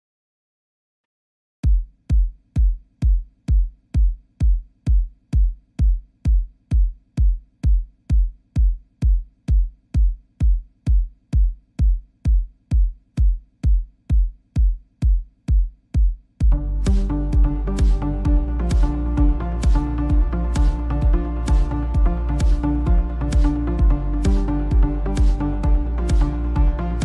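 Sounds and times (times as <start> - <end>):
kick drum beat: 1.6 - 27.0.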